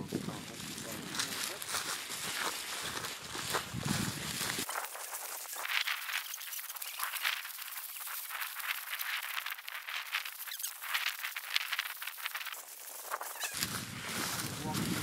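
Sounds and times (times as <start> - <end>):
footsteps crunching through dry grass: 0.0 - 15.0.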